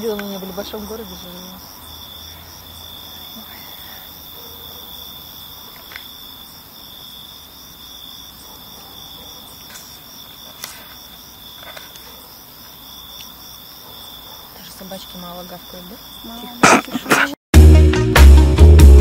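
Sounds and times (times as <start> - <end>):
crickets chirping: 0.0 - 17.4.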